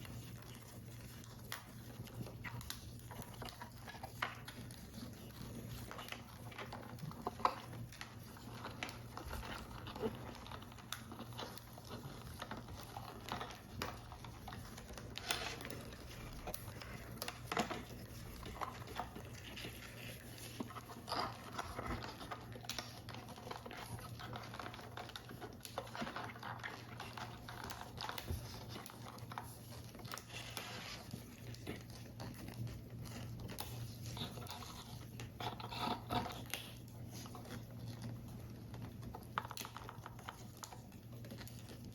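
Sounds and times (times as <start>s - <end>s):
card paper rustling and creasing: 0.0s - 38.3s.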